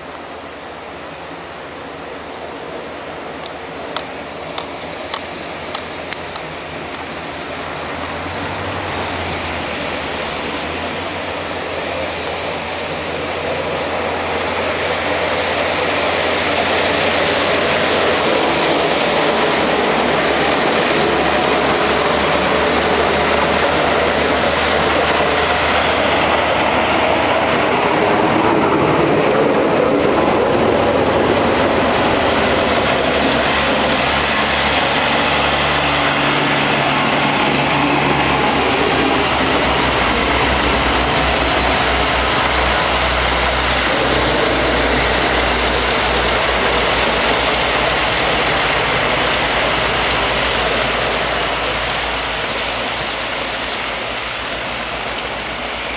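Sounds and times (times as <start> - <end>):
truck engines running: 3.3 - 55.9
plow blades scraping pavement: 3.4 - 55.9.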